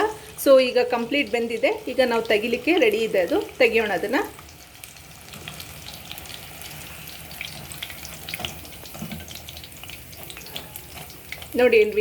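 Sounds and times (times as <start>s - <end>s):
chicken deep-frying in hot oil: 0.0s - 12.0s.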